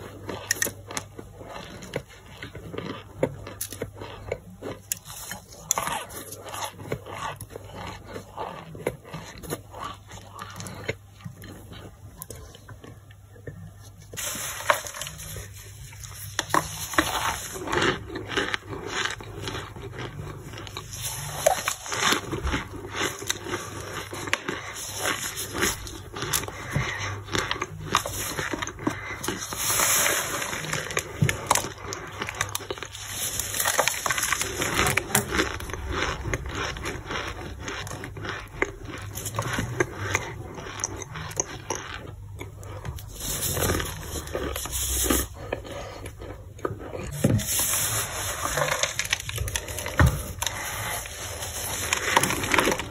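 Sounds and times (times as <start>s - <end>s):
dry starch chunks crunching: 0.0s - 52.9s.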